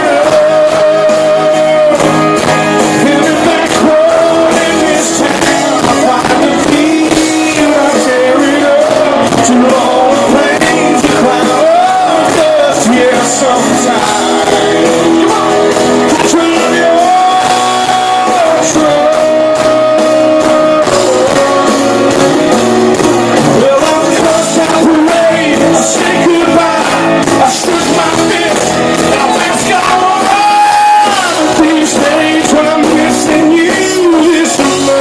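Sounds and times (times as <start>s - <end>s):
band playing country-rock: 0.0s - 35.0s
bending melody line: 0.0s - 35.0s
drums and cymbals: 0.0s - 35.0s.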